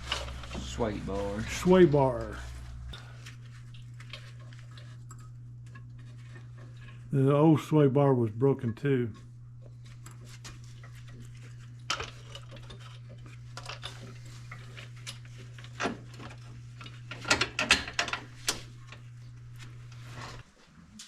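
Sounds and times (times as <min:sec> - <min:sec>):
low hum: 0:00.0 - 0:17.1.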